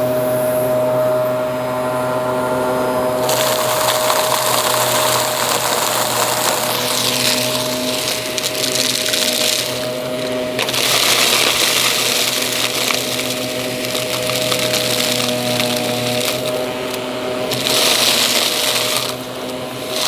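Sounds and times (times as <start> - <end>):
vacuum cleaner motor whine: 0.0 - 20.0
debris crackling being sucked up: 3.2 - 20.0.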